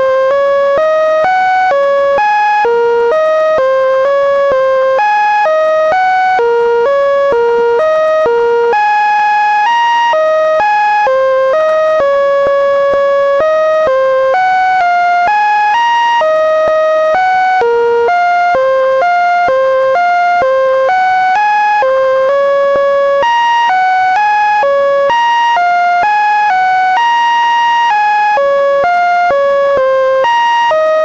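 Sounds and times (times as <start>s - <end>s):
buzzy computer-generated melody: 0.0s - 27.1s.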